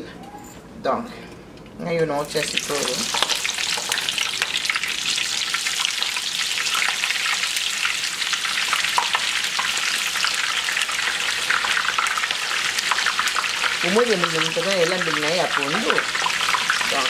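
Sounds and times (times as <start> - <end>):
onion sizzling in oil: 2.2 - 17.0.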